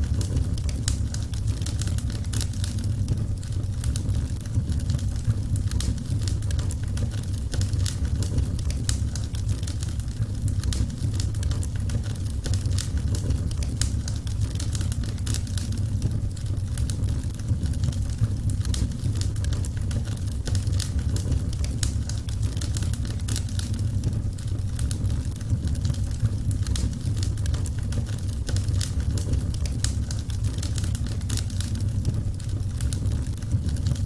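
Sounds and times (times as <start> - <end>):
low rumble of flames: 0.0 - 34.0
wood fire crackling and popping: 0.0 - 34.0.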